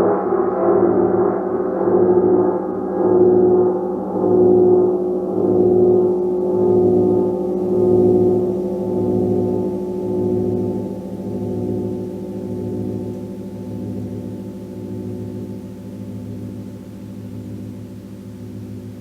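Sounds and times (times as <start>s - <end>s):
gong ringing deep hum: 0.0s - 19.0s.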